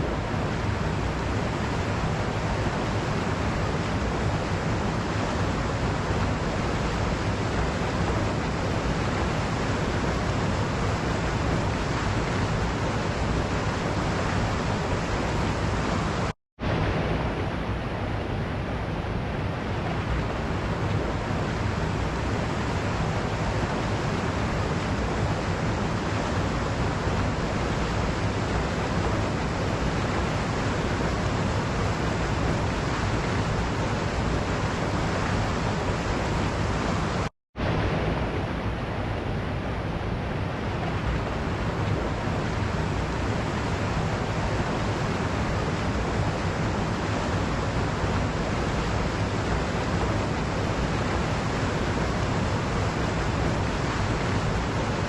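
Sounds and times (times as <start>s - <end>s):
waterfall rushing: 0.0s - 17.8s, 19.6s - 55.0s.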